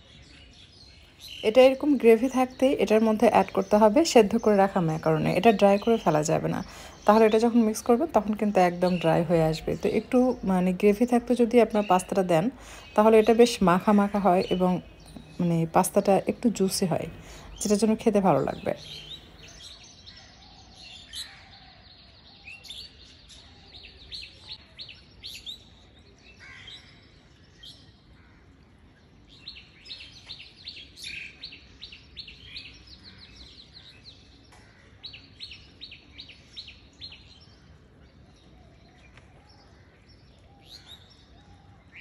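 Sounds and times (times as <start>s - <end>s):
small birds chirping faintly: 0.0s - 42.0s.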